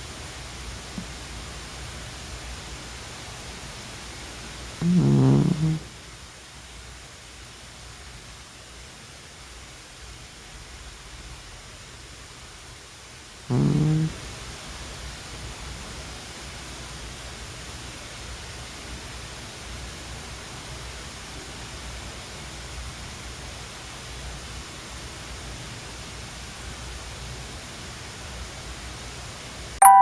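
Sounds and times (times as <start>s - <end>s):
steady background hiss: 0.0s - 29.8s.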